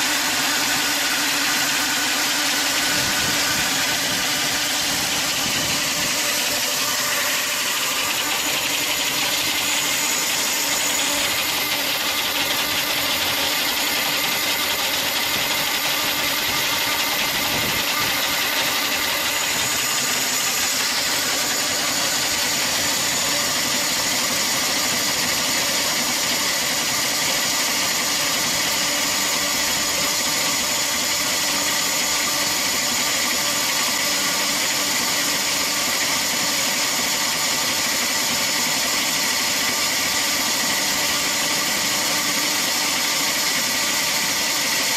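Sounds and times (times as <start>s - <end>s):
chainsaw cutting through log: 0.0s - 44.9s.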